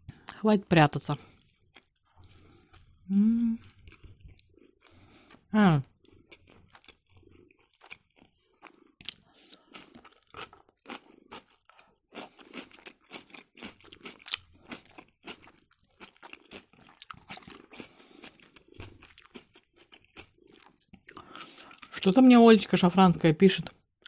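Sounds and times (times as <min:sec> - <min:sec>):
person chewing and crunching: 0:01.1 - 0:22.1.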